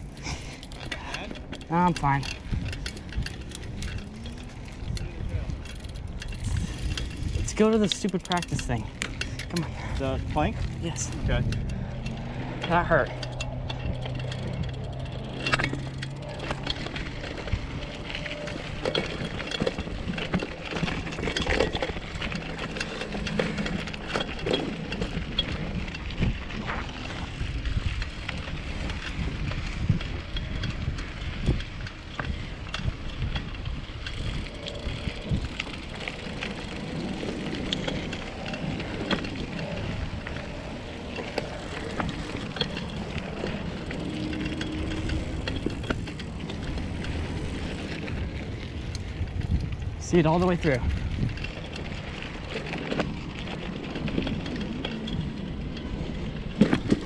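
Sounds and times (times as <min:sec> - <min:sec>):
bicycle tyres rumbling on dirt: 0:00.0 - 0:57.0
bike rattling and knocking: 0:00.0 - 0:57.0.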